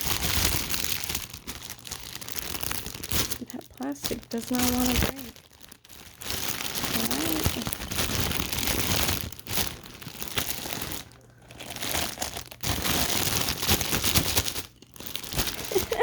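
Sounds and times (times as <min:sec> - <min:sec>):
stiff plastic crinkling: 0:00.0 - 0:16.0.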